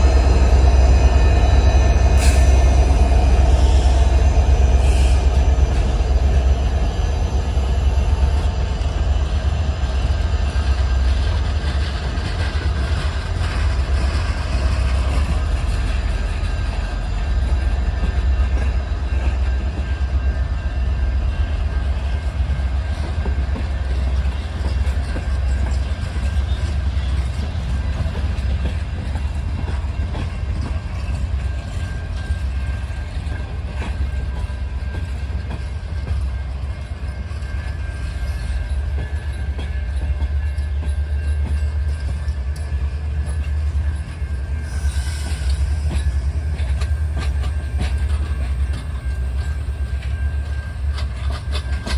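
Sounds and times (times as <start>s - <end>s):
train rumbling on rails: 0.0s - 51.9s.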